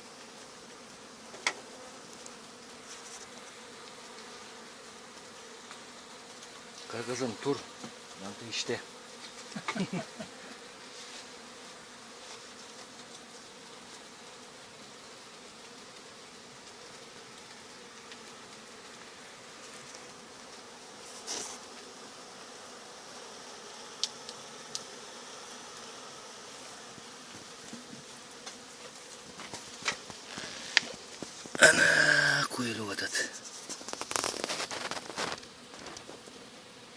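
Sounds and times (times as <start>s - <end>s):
bees buzzing: 0.0s - 36.9s.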